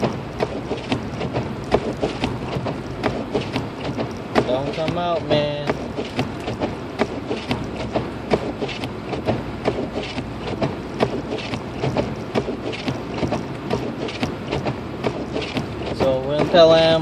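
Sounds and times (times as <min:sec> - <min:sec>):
irregular clicks and ticks: 0:00.0 - 0:17.0
low rumble of tyres and engine: 0:00.0 - 0:17.0.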